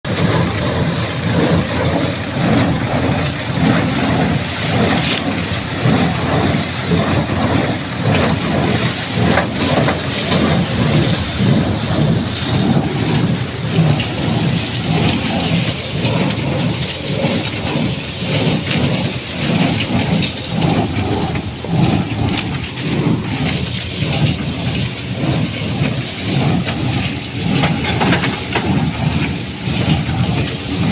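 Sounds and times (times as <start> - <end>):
baler rumbling: 0.1 - 30.9.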